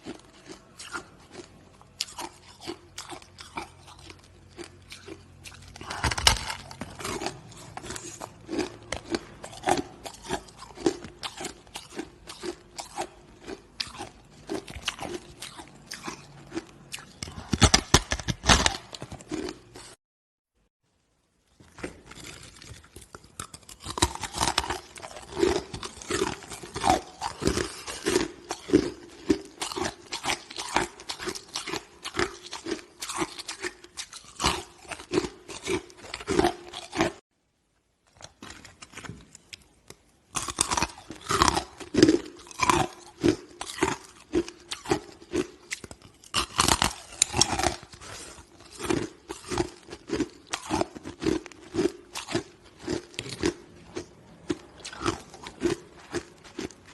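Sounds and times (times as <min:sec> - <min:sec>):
person crunching ice: 0:00.0 - 0:19.9, 0:21.8 - 0:37.2, 0:40.4 - 0:56.9.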